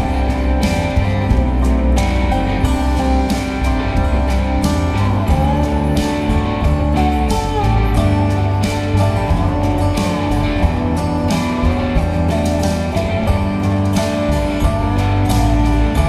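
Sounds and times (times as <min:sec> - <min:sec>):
song with guitar bass and beat: 0:00.0 - 0:16.0.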